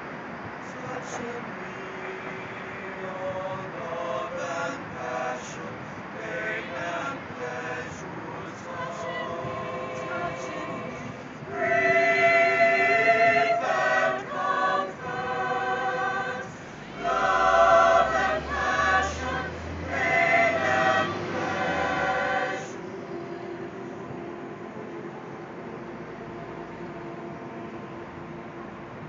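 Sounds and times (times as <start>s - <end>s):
street traffic hum: 0.0s - 29.0s
choir singing a cappella: 0.6s - 28.6s.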